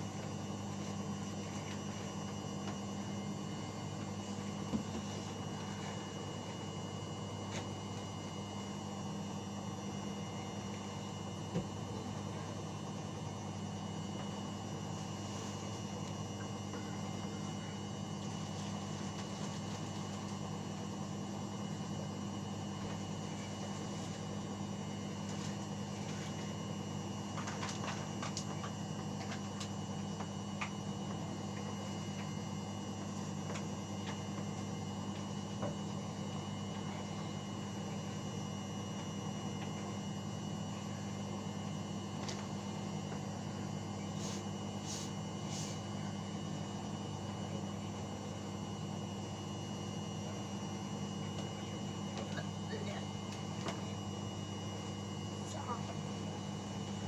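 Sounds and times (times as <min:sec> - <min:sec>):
washing machine humming: 0:00.0 - 0:57.0.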